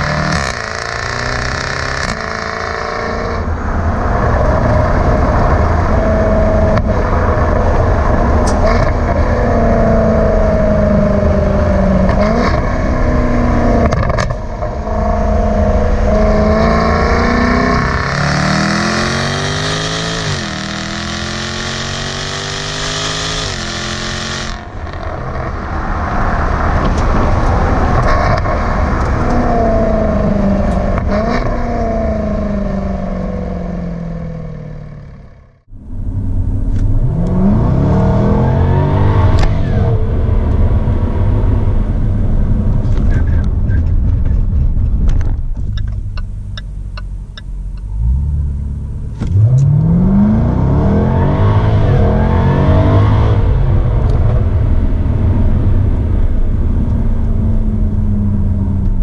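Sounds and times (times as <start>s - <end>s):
sports car exhaust accelerating: 0.0s - 59.0s.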